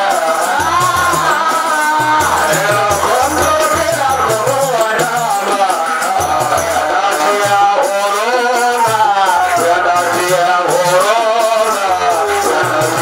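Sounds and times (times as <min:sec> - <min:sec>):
devotional singing: 0:00.0 - 0:13.0
frame drums beating: 0:00.0 - 0:13.0
rattling percussion: 0:00.0 - 0:13.0.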